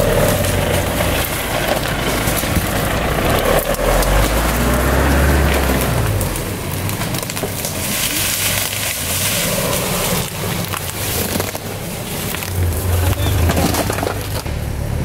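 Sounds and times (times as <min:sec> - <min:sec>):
branches cracking and snapping: 0:00.0 - 0:15.0
vehicle engine running low: 0:00.0 - 0:15.0.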